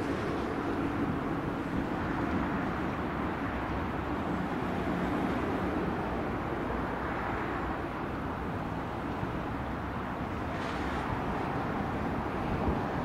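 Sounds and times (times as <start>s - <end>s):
motorway traffic noise: 0.0s - 13.0s.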